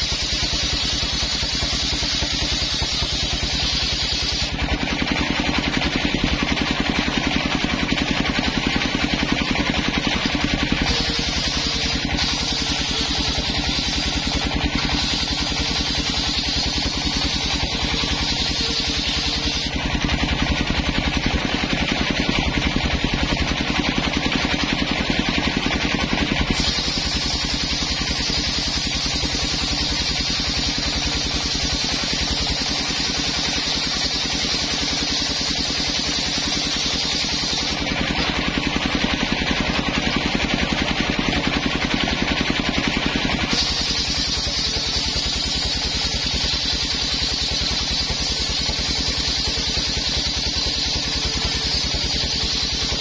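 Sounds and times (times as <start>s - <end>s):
saw blade cutting wood hiss: 0.0s - 22.4s, 24.2s - 40.0s, 43.2s - 53.0s
saw engine running: 0.0s - 53.0s.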